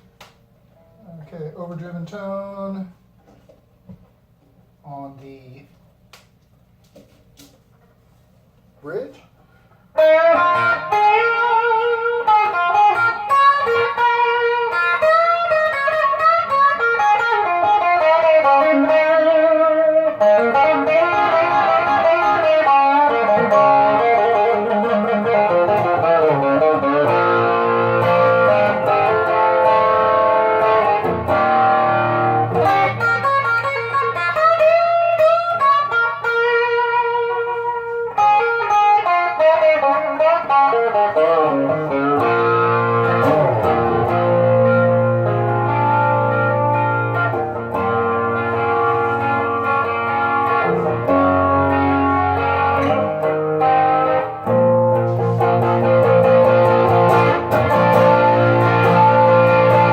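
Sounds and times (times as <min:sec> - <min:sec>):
overdriven electric guitar: 0:09.9 - 0:59.9.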